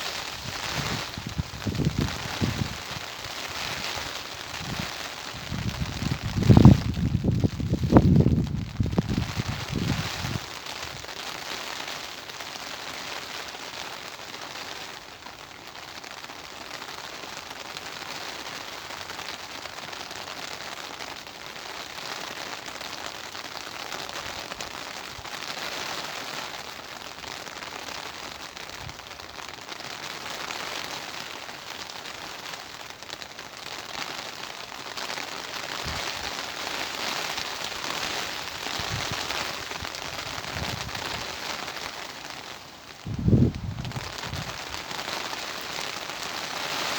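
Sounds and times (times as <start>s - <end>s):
steady rain hissing: 0.0s - 46.9s.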